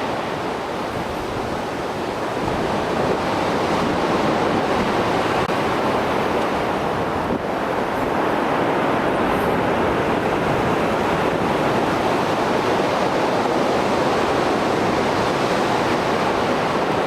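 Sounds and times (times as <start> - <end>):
surf breaking and washing: 0.0 - 17.0.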